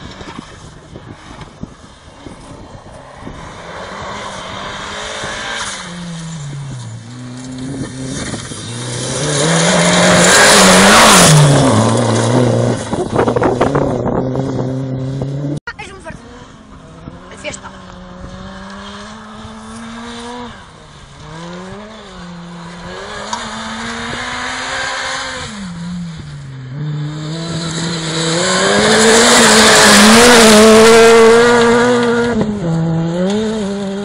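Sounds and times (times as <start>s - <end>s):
gravel and tyre noise: 0.0s - 34.0s
rally car engine revving: 0.0s - 34.0s.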